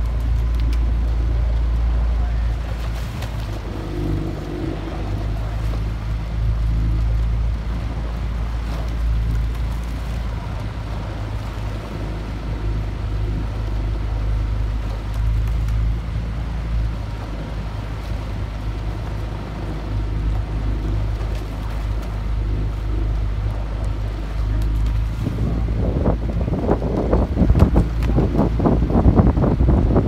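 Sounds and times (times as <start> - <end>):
outboard motor humming: 0.0 - 30.0
water and wind hiss: 0.0 - 30.0.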